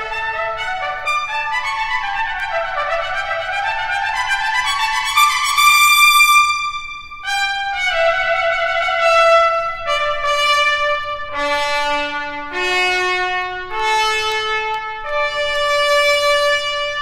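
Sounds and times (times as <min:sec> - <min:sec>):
trumpet playing held notes: 0:00.0 - 0:17.0.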